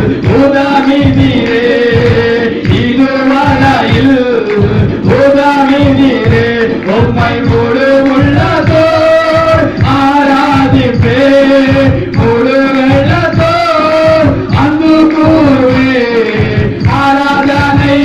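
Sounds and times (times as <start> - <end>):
men singing worship song: 0.0 - 18.0
steady beat: 0.0 - 18.0.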